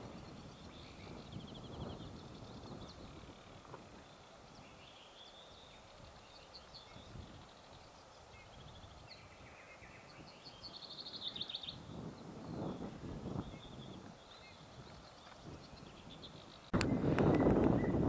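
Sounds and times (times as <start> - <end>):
faint outdoor hiss: 0.0 - 18.0
songbirds singing: 0.0 - 18.0.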